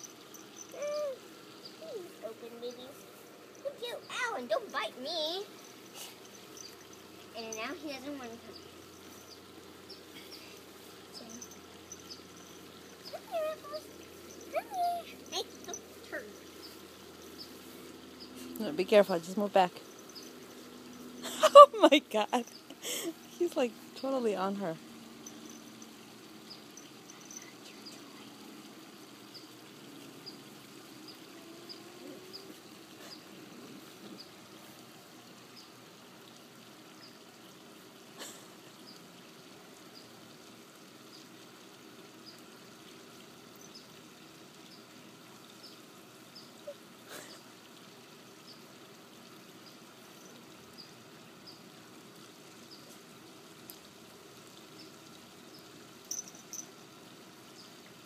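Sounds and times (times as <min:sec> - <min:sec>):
faint outdoor ambience: 0:00.0 - 0:58.0.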